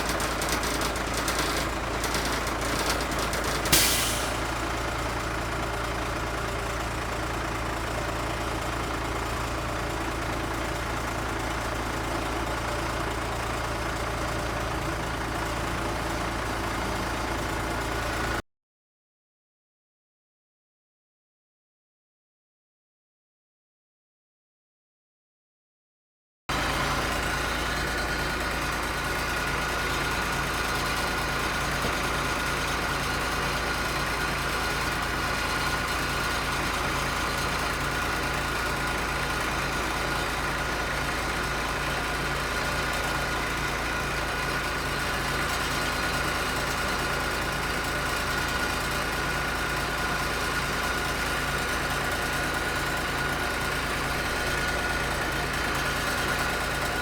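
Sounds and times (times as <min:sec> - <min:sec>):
bus diesel engine running: 0:00.0 - 0:18.4, 0:26.5 - 0:57.0.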